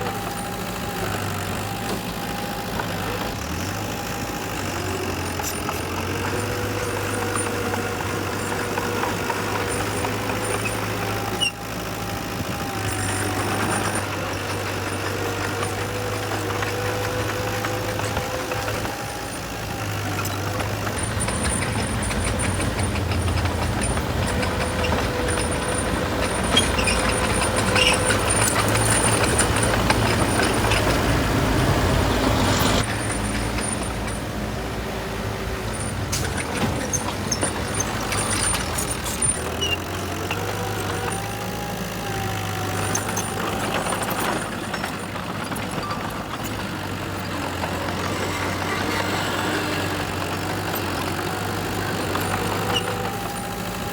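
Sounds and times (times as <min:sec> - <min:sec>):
diesel construction machinery running: 0:00.0 - 0:53.9.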